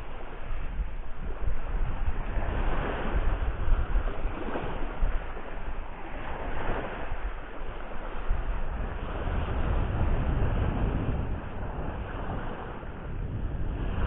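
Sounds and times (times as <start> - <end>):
small waves breaking on shore: 0.0 - 14.0
wind rumbling on microphone: 0.0 - 14.0.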